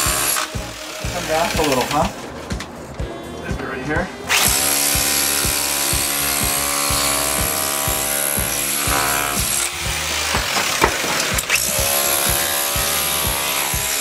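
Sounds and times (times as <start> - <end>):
power drill whining: 0.0 - 2.2, 4.3 - 14.0
background music with beat: 0.0 - 14.0.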